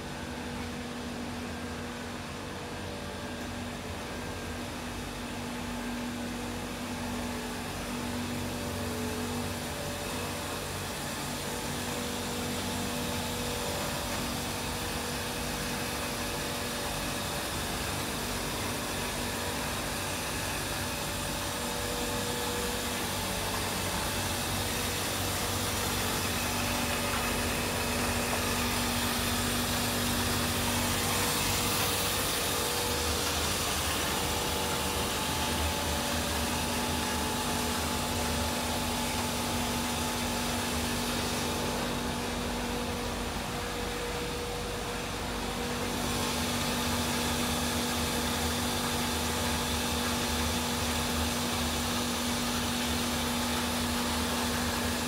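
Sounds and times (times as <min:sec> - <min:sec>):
boiler plant machinery whirring: 0:00.0 - 0:55.0
steady machinery hum: 0:00.0 - 0:55.0.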